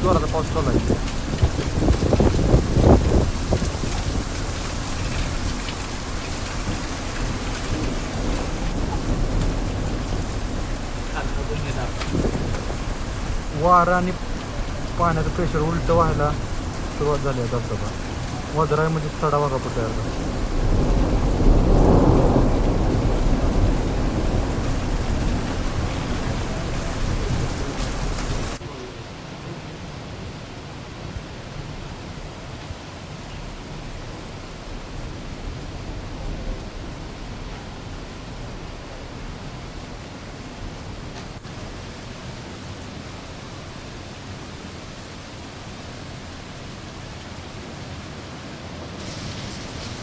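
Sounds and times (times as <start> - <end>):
low wind rumble: 0.0 - 50.0
rain: 0.0 - 50.0
waterfall roaring: 4.7 - 23.4, 24.0 - 33.2, 35.3 - 50.0.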